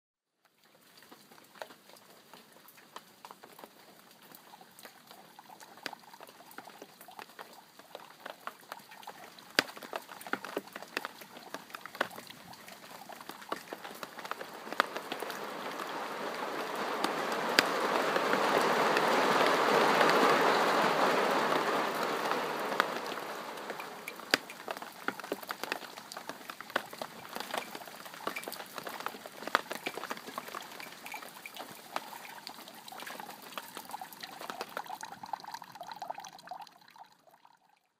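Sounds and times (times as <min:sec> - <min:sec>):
rain dripping on hard surfaces: 0:00.4 - 0:37.9.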